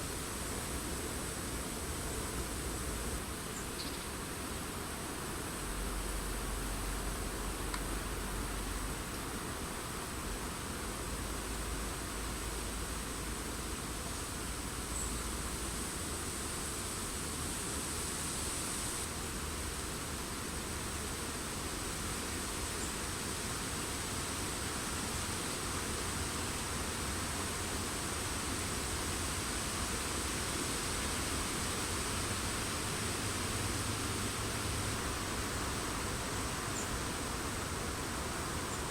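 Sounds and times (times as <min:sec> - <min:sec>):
wind through forest foliage: 0:00.0 - 0:38.9.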